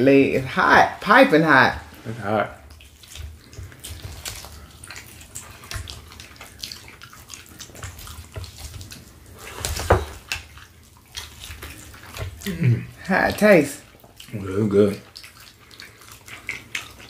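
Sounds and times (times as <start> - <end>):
chewing and wet mouth sounds: 0.1 - 17.0.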